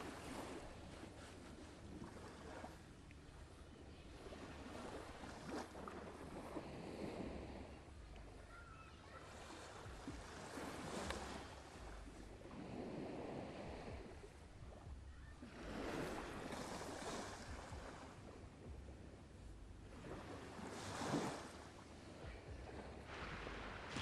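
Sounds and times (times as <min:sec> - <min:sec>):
waves: 0:00.0 - 0:24.0
wind: 0:00.0 - 0:24.0.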